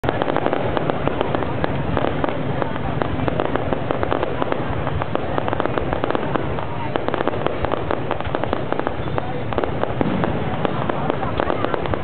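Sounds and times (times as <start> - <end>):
fireworks crackling: 0.0 - 12.0
steady rumble: 0.0 - 12.0.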